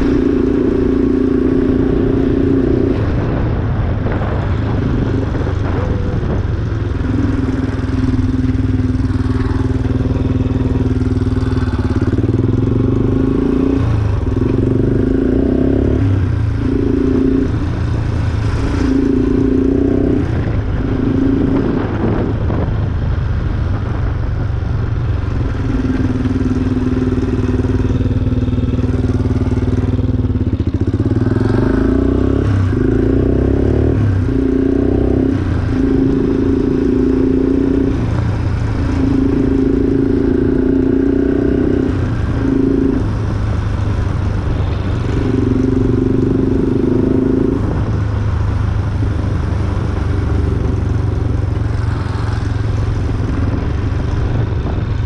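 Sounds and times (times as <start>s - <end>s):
quad bike engine revving: 0.0s - 22.7s, 25.4s - 48.2s, 48.8s - 55.0s.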